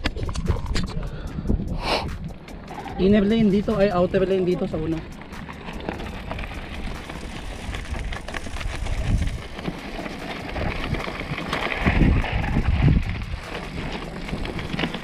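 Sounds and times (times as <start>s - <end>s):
bike rolling over rocky trail: 0.0s - 15.0s
tyres clicking and rattling on stones: 0.0s - 15.0s
wind buffeting microphone: 0.0s - 15.0s.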